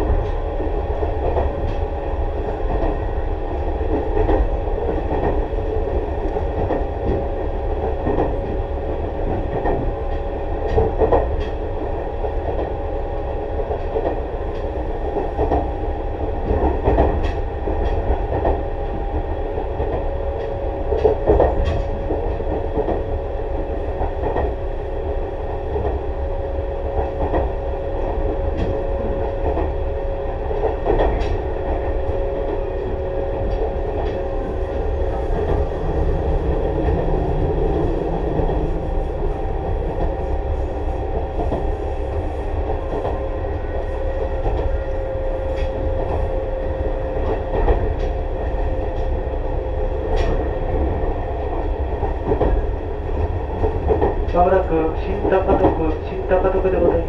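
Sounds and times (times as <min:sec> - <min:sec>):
rail joint clicks: 0:00.0 - 0:57.0
train wheels rumbling on rail: 0:00.0 - 0:57.0.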